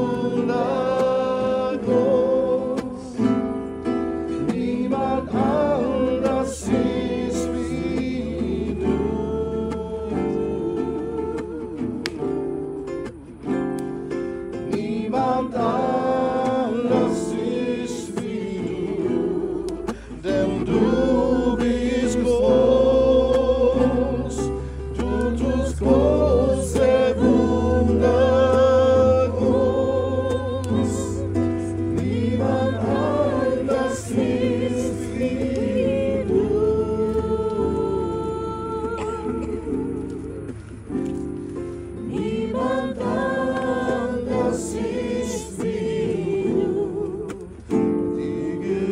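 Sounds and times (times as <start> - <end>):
group singing a worship song: 0.0 - 48.9.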